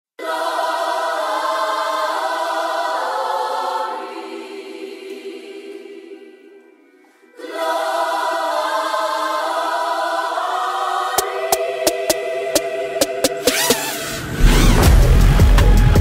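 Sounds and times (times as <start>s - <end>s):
choir-like music chords: 0.2s - 16.0s.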